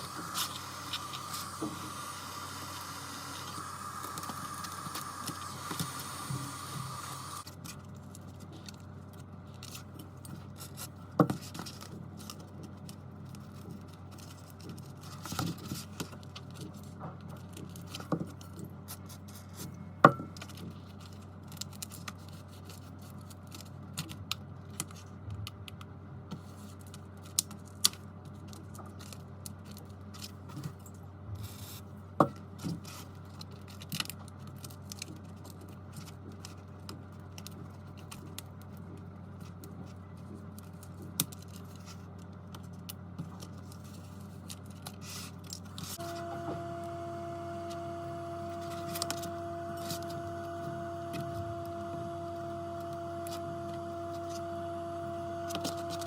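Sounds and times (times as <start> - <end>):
steady low hum: 0.0 - 23.2, 34.3 - 56.0.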